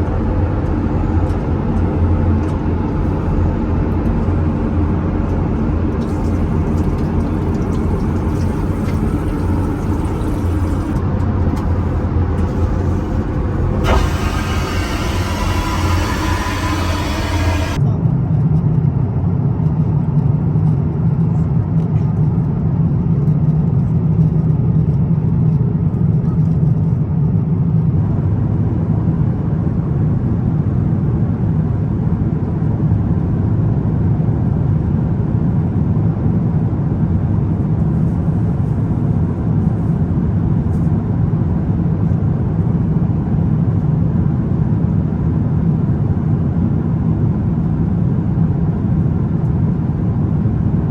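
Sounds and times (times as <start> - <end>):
airplane cabin engine rumble: 0.0 - 28.6, 34.9 - 50.9.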